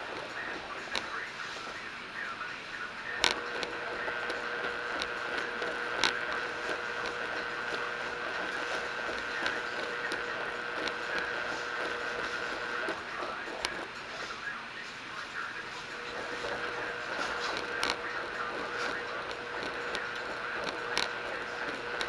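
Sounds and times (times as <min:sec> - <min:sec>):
washing machine whine: 0:00.0 - 0:22.0.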